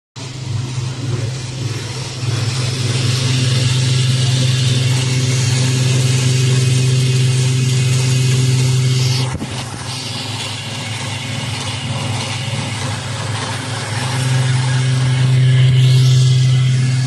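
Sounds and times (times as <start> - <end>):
sewing machine motor hum: 0.2 - 17.0
high mechanical hiss: 0.6 - 17.0.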